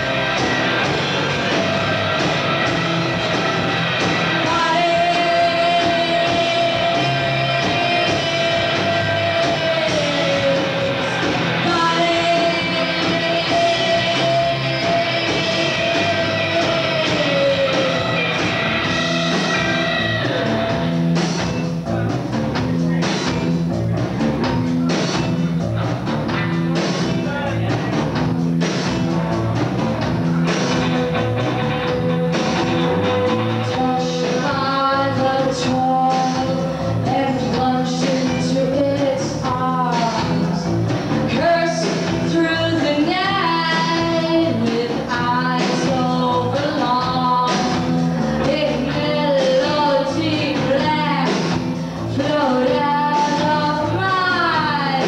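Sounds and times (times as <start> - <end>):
driving bass line: 0.0 - 55.0
drums: 0.0 - 55.0
live rock band playing: 0.0 - 55.0.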